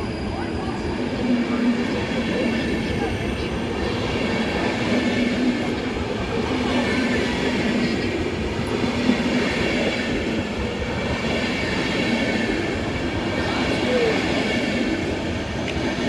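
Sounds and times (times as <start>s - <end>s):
train carriages rumbling: 0.0s - 16.0s.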